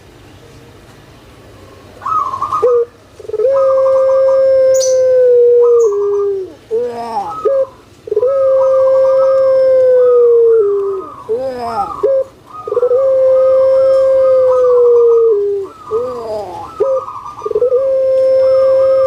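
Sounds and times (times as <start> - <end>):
dove cooing: 2.0 - 19.0.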